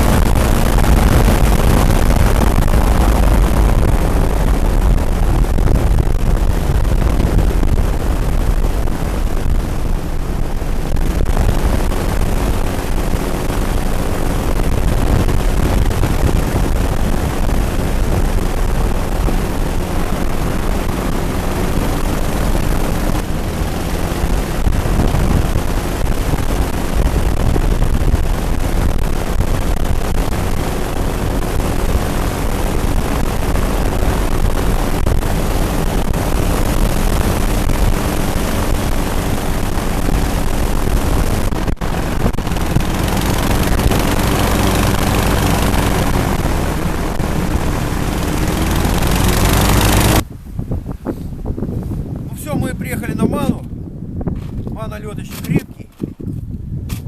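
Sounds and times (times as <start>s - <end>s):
airboat engines droning: 0.0s - 51.5s.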